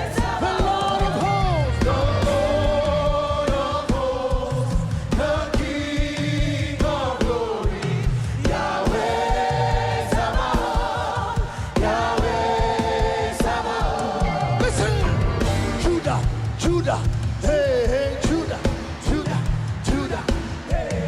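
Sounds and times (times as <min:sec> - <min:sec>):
band with steady beat: 0:00.0 - 0:21.0
choir and congregation singing: 0:00.0 - 0:21.0.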